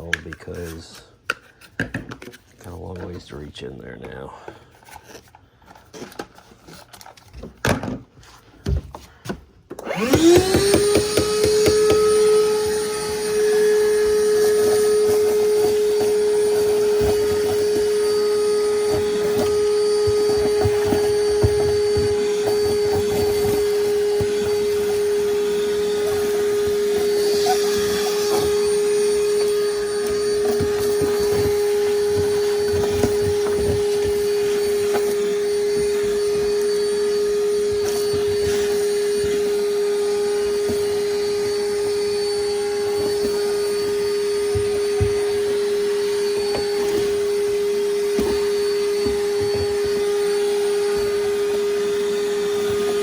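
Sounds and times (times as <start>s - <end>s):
vacuum cleaner running: 8.6s - 53.0s.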